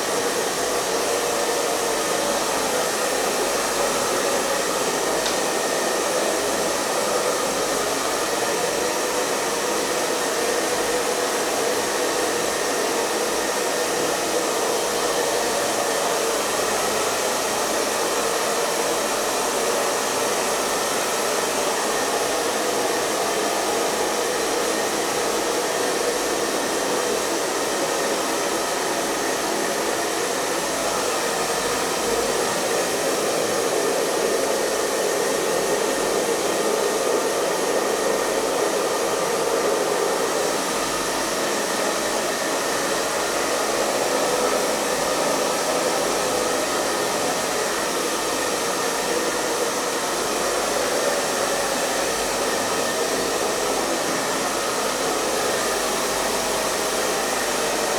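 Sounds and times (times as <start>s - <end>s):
hair dryer running: 0.0s - 57.9s.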